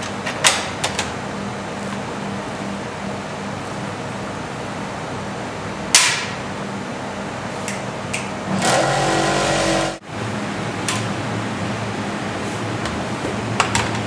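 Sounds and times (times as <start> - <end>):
machinery humming: 1.2 - 14.0.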